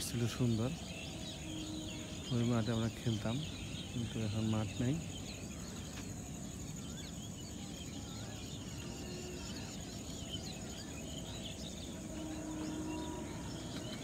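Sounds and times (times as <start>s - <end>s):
high insect trill: 0.0s - 14.0s
small birds chirping: 0.0s - 14.0s.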